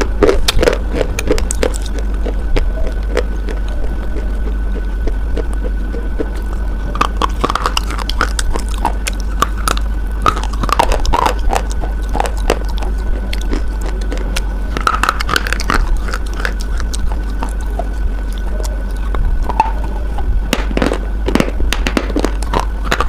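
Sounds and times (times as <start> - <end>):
crunchy biting and chewing: 0.0 - 23.0
steady low hum: 0.0 - 23.0.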